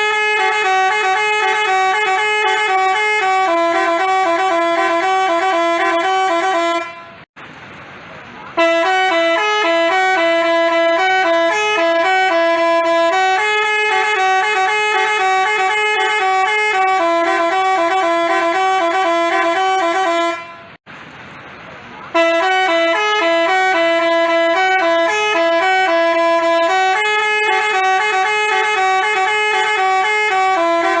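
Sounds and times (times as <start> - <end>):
multi-tone bus horn playing a tune: 0.0 - 7.3, 8.5 - 20.8, 22.1 - 31.0.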